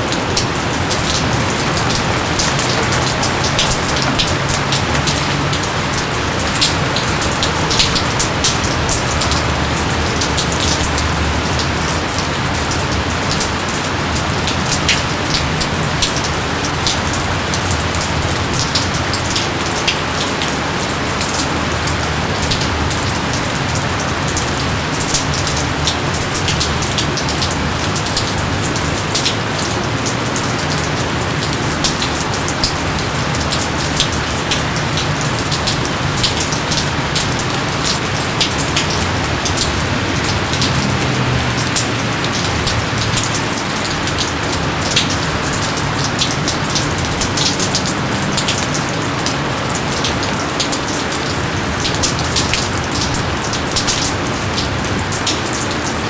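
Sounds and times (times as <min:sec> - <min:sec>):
heavy rain pattering on leaves: 0:00.0 - 0:56.0.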